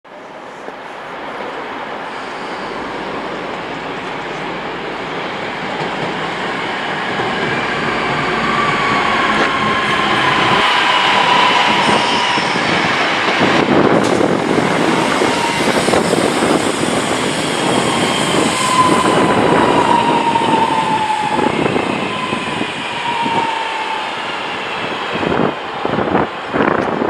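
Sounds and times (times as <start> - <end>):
train wheels rumbling on rail: 0.2 - 27.0.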